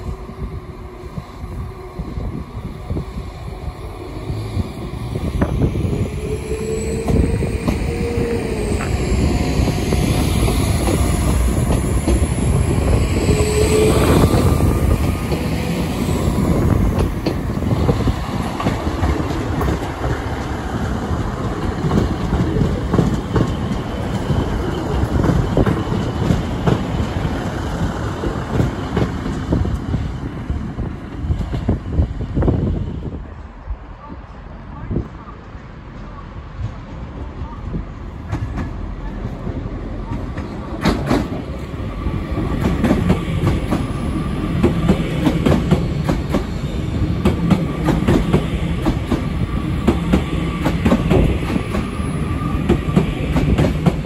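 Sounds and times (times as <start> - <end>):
diesel train engines running: 0.0 - 54.0
wheels rumbling on rail: 0.0 - 54.0.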